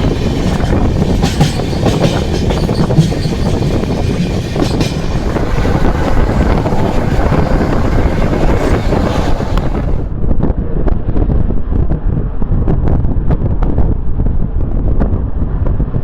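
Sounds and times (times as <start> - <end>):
train rumbling on track: 0.0 - 12.6, 13.5 - 16.0
wind buffeting microphone: 0.0 - 16.0.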